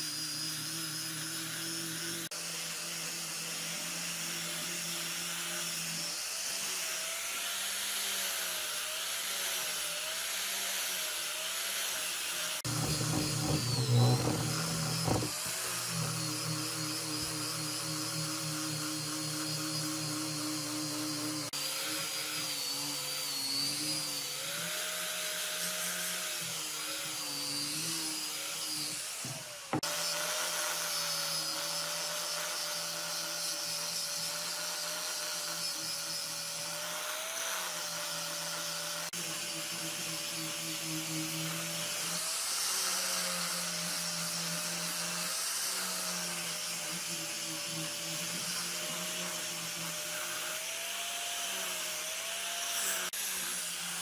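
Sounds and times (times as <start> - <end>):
electric power tool motor: 0.0 - 54.0.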